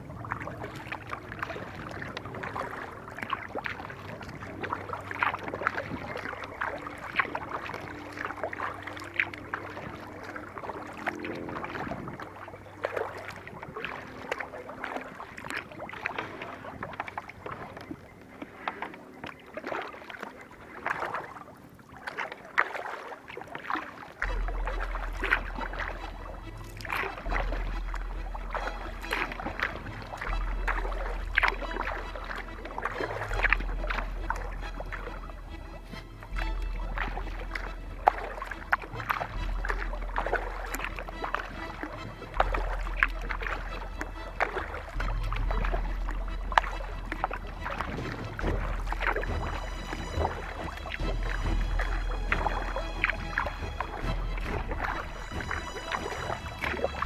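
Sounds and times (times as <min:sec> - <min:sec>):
deep low hum: 0:00.0 - 0:18.3, 0:24.2 - 0:57.0
paddle splashing water: 0:00.0 - 0:57.0.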